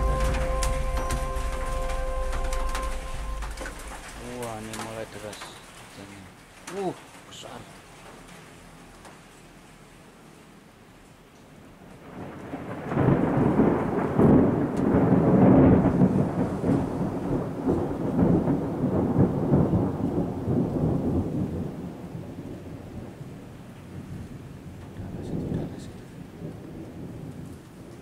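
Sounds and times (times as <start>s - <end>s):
thunder rumbling: 0.0s - 6.6s, 11.8s - 28.0s.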